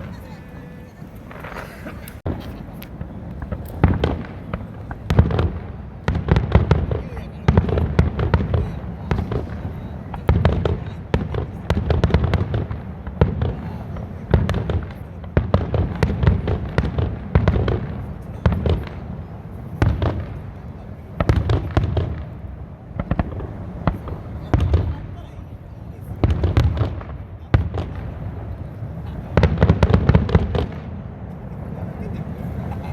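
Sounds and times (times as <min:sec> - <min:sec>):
fireworks booming: 0:00.0 - 0:32.9
fireworks crackling: 0:00.0 - 0:32.9.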